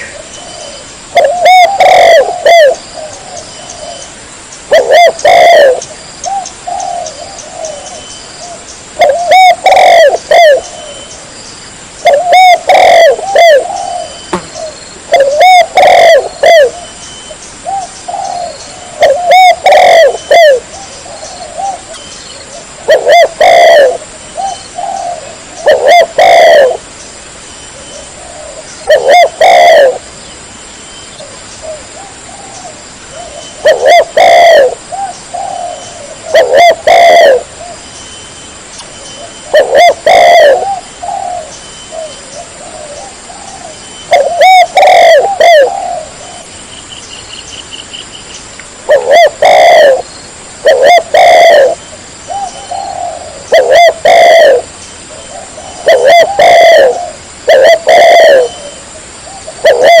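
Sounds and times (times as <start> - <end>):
dove cooing loudly: 0.0 - 4.1, 4.7 - 11.1, 12.0 - 16.9, 17.6 - 26.9, 28.0 - 30.1, 31.6 - 37.8, 39.2 - 46.5, 48.8 - 60.0.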